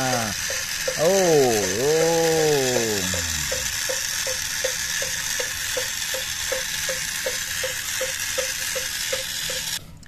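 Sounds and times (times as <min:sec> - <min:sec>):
light regular ticking: 0:00.0 - 0:09.8
small geared motor whirring: 0:00.0 - 0:09.8.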